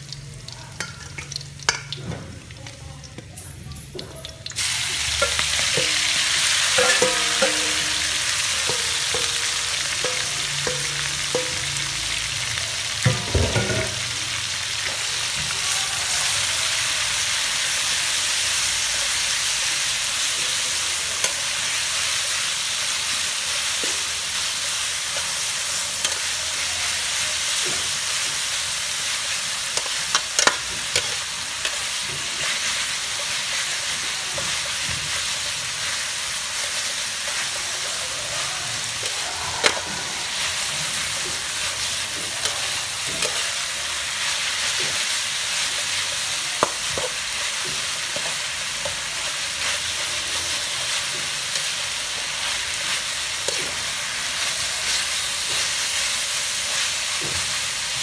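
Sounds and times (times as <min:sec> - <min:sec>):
food sizzling in a wok: 0:00.0 - 0:58.0.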